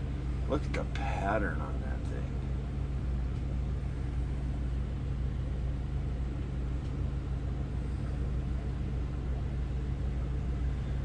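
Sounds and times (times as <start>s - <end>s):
steady low machine hum: 0.0s - 11.0s.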